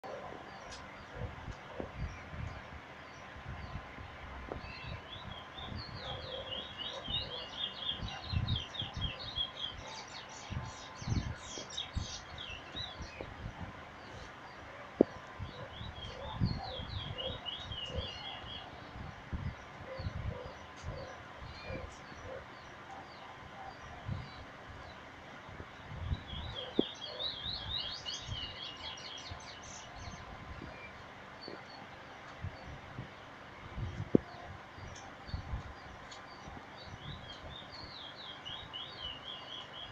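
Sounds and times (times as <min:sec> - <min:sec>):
bird twittering high chirps: 0:04.5 - 0:25.0, 0:25.8 - 0:32.8, 0:33.8 - 0:39.9.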